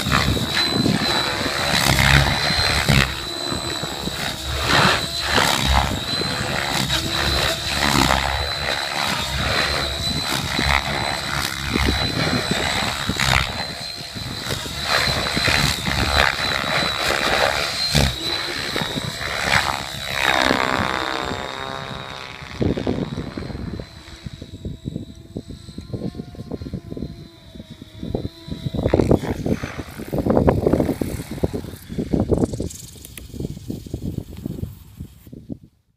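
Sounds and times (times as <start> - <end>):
helicopter rotor blade rush: 0.0 - 35.2
steady high whine: 0.0 - 35.3.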